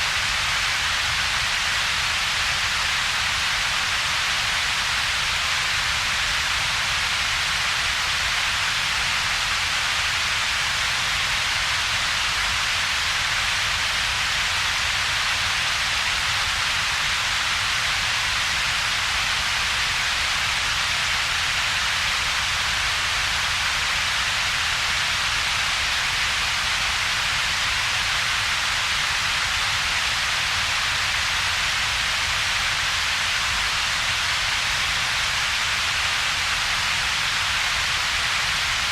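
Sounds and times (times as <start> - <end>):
computer-generated noise hiss: 0.0 - 38.9.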